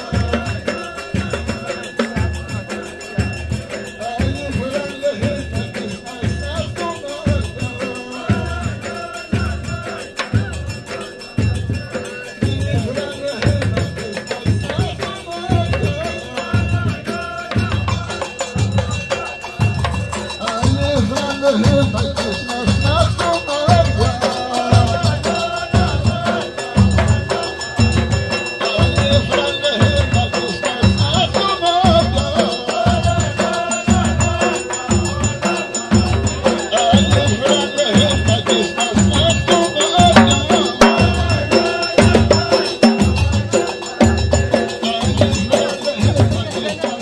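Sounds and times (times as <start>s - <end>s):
frame drums and bass drum beating: 0.0s - 47.0s
men chanting: 0.0s - 47.0s.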